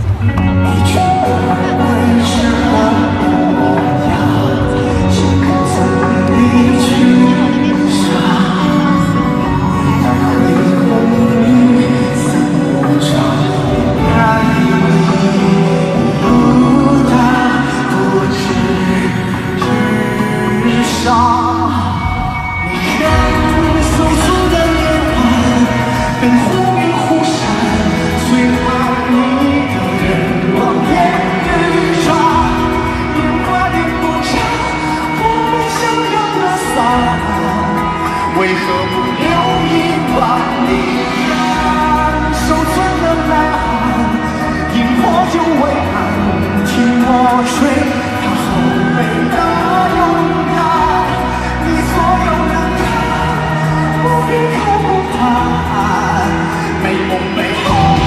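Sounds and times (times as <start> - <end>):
band playing pop: 0.0 - 58.0
man singing into microphone: 0.0 - 58.0.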